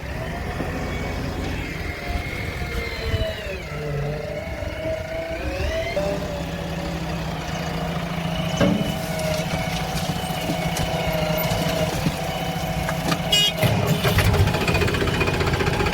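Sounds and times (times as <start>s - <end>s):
diesel machine engine running: 0.0s - 15.9s.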